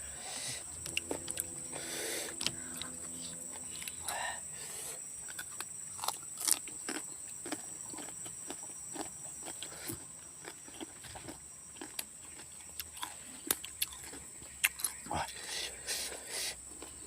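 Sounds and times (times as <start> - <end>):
chewing crisp fruit: 0.3 - 17.0.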